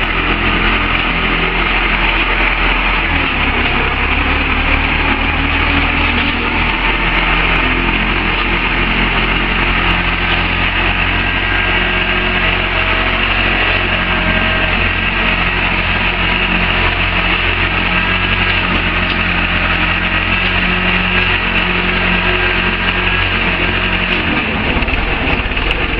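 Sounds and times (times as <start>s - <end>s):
drilling rig engine drone: 0.0s - 25.9s.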